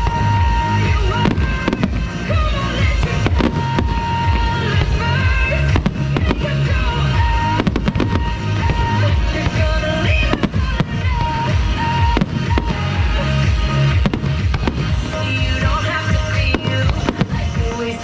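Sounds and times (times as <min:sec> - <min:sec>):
fireworks bursts: 0:00.0 - 0:18.0
music playing: 0:00.0 - 0:18.0.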